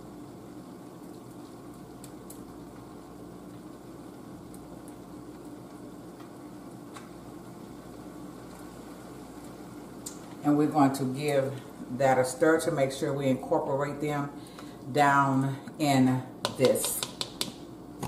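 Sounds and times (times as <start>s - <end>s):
broth boiling and bubbling: 0.0s - 18.0s.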